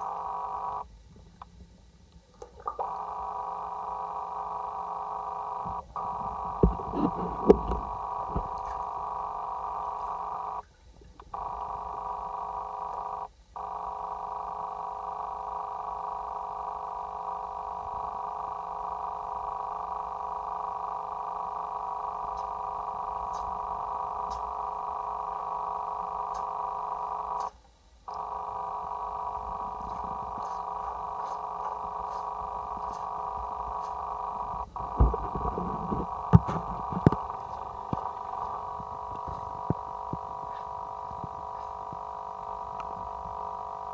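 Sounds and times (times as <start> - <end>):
droning hum of held tones: 0.0 - 43.9.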